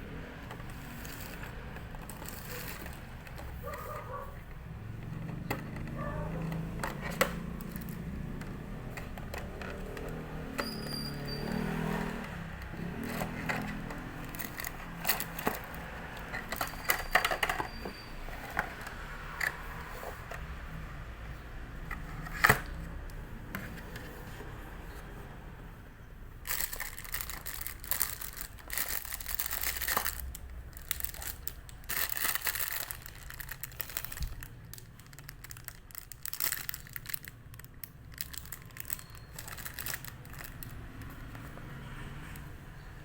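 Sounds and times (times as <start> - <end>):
plastic and paper crinkling: 0.1 - 20.6, 26.4 - 41.8.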